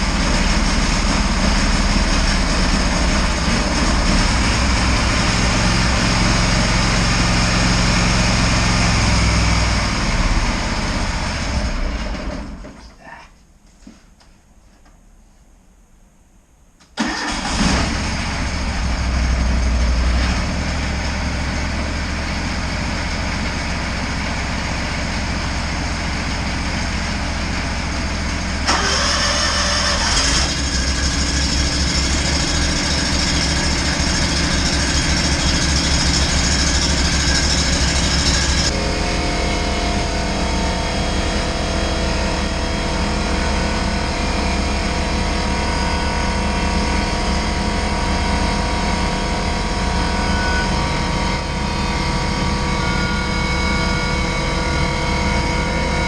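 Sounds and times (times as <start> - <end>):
engine running: 0.0 - 12.8, 17.0 - 56.0.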